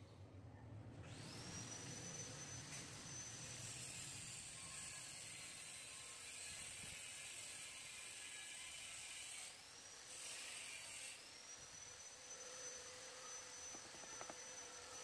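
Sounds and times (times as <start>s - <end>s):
small motor whining: 1.0s - 15.0s.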